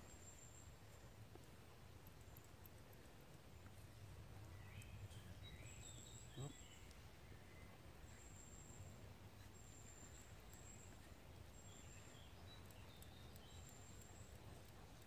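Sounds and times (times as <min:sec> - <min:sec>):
soft bird chirps: 0:00.0 - 0:15.0.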